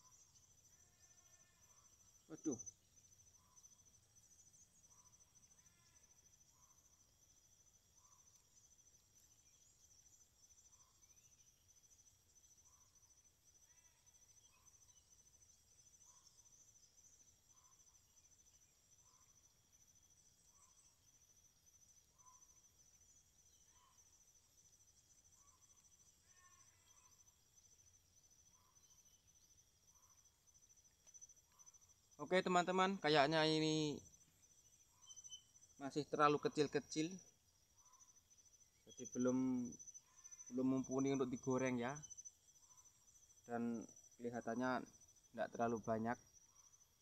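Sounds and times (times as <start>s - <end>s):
high-pitched insect trill: 0.0s - 47.0s.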